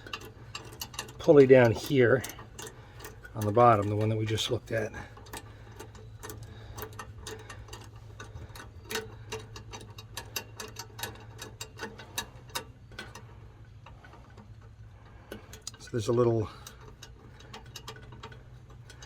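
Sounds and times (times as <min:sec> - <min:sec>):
light metallic clicks and taps: 0:00.0 - 0:19.0
steady low hum: 0:00.0 - 0:19.0.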